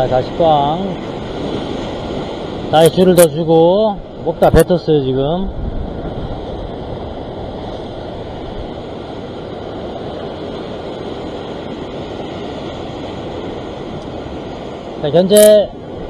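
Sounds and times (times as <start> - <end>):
ocean surf breaking on rocks: 0.0 - 16.0.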